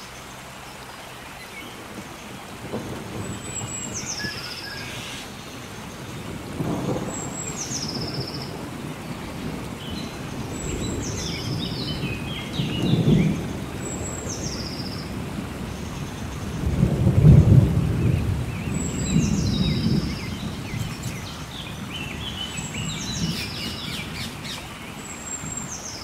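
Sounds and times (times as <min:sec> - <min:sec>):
steady rain: 0:00.0 - 0:26.0
rolling thunder: 0:02.0 - 0:24.6.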